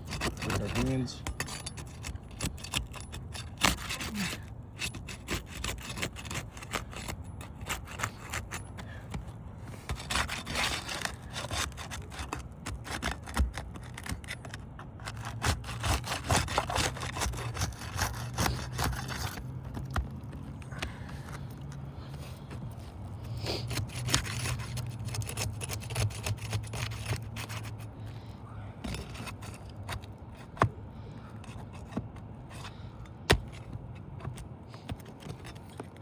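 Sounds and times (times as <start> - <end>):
shingles scraping and crackling: 0.0 - 36.0.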